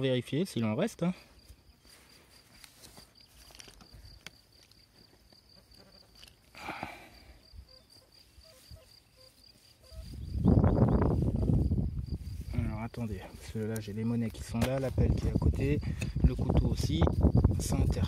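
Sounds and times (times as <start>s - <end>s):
cricket chirping: 0.0s - 18.0s.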